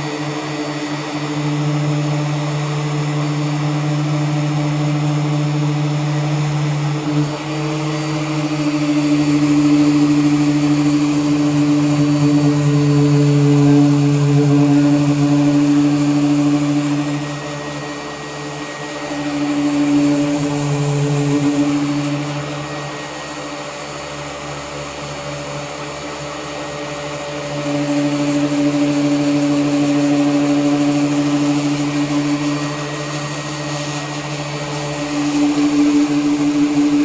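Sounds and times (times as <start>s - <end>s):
power sander on car panel: 0.0s - 37.0s.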